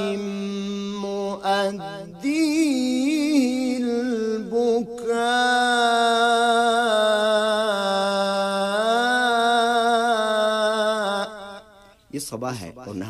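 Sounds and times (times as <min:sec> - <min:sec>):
man singing unaccompanied: 0:00.0 - 0:11.8.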